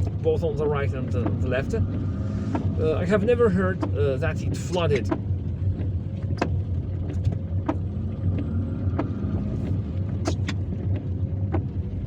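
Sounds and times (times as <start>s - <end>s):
car engine and road rumble: 0.0s - 12.0s
heavy rain on car: 0.0s - 12.0s.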